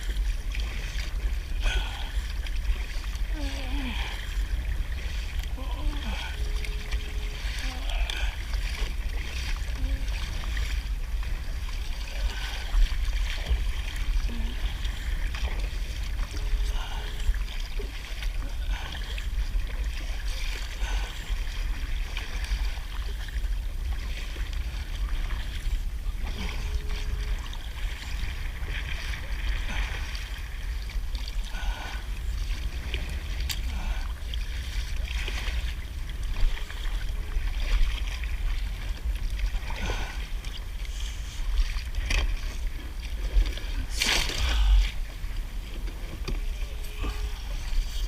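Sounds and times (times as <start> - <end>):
low rumble: 0.0 - 48.0
water lapping against a kayak: 0.0 - 48.0.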